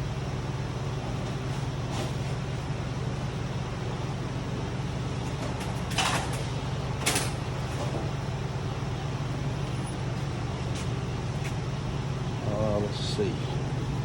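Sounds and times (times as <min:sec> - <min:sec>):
shop fan humming: 0:00.0 - 0:14.0.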